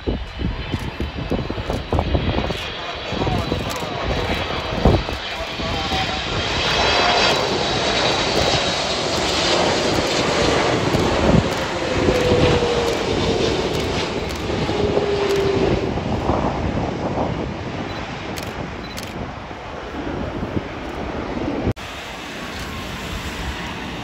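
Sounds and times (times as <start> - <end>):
jet engine whine falling in pitch: 0.0 - 24.0
jet engines rushing: 0.0 - 24.0.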